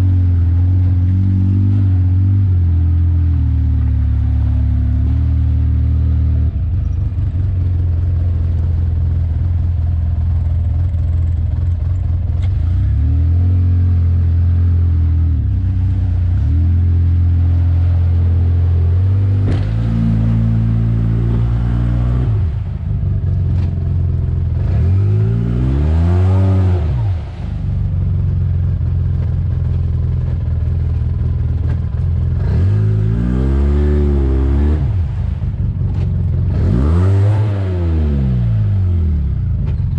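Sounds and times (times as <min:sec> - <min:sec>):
utility vehicle engine revving: 0:00.0 - 0:39.9.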